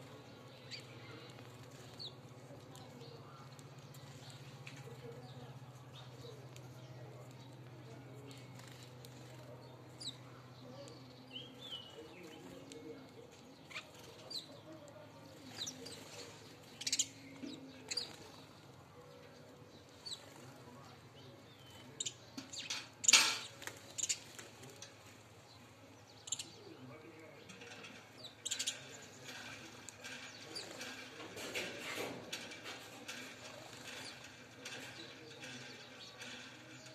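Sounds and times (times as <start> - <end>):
sparrows chirping: 0.0 - 36.9.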